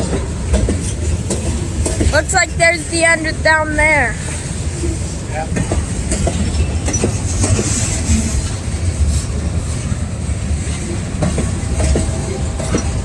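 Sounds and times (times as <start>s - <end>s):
train wheels rumbling on track: 0.0s - 13.0s
wheels clicking over rail joints: 0.0s - 13.0s.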